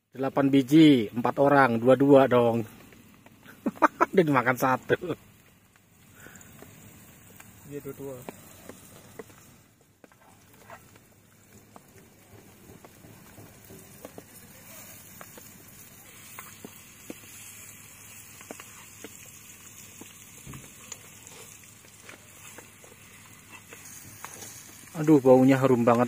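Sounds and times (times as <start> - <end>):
bananas sizzling in a pan: 0.0 - 26.0.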